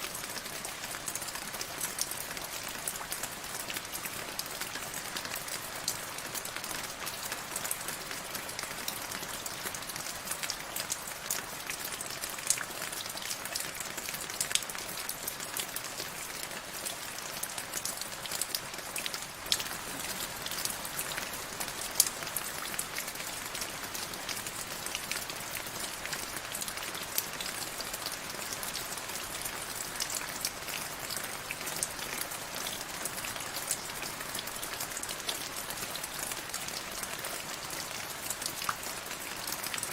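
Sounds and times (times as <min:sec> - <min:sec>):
raindrops ticking on surface: 0:00.1 - 0:39.9.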